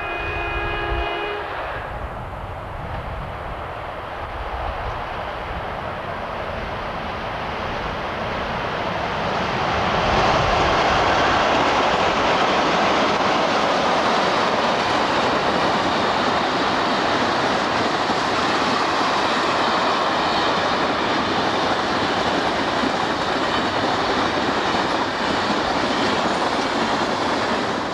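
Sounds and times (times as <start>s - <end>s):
freight train rolling past: 0.0s - 27.9s.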